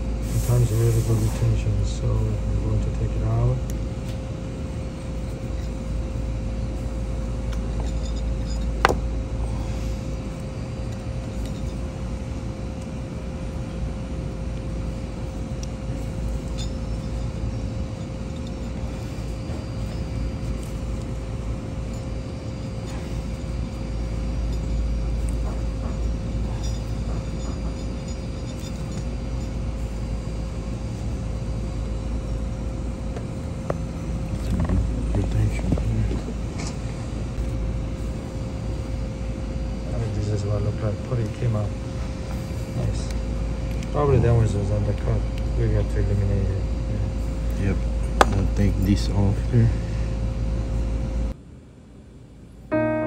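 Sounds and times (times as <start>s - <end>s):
machine hum with low rumble: 0.0s - 53.0s.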